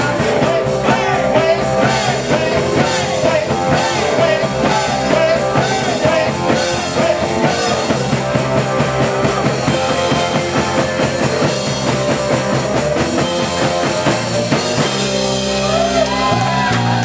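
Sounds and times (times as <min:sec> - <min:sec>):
drum kit beat: 0:00.0 - 0:17.0
live rock band playing: 0:00.0 - 0:17.0.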